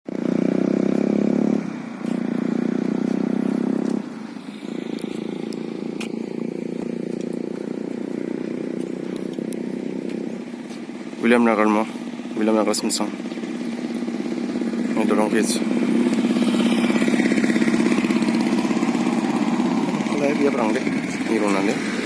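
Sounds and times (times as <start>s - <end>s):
motorcycle engine running: 0.1s - 22.0s.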